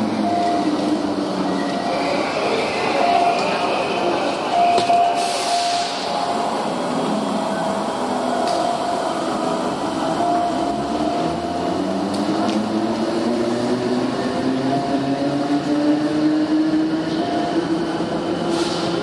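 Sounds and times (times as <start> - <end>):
electric train passing: 0.0 - 19.0
station noise: 0.0 - 19.0.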